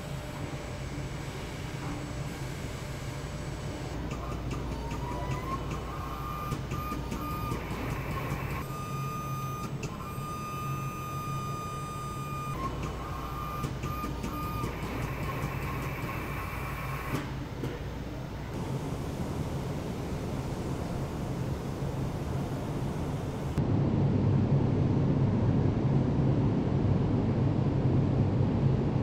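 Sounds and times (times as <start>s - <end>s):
low machinery hum: 0.0s - 29.0s.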